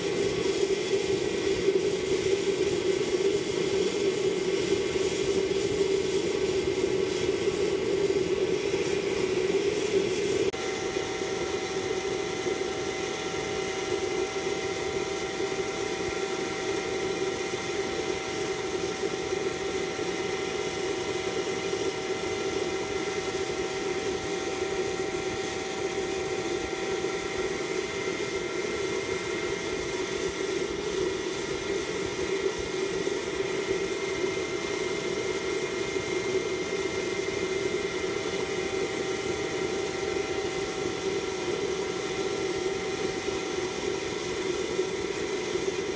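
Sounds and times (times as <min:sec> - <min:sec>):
rushing burner noise: 0:00.0 - 0:45.9.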